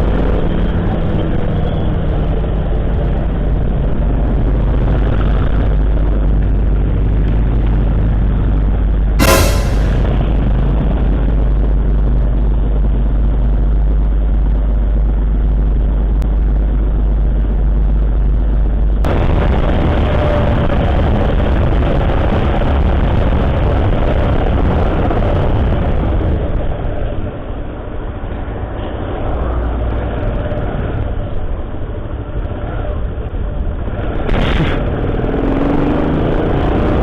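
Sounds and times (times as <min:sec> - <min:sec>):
wind and road noise: 0:00.0 - 0:09.2, 0:10.0 - 0:37.0.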